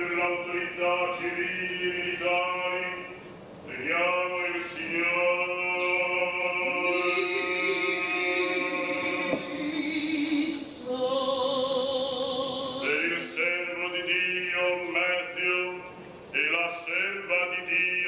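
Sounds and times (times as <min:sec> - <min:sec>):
liturgical chant with vibrato: 0:00.0 - 0:18.0.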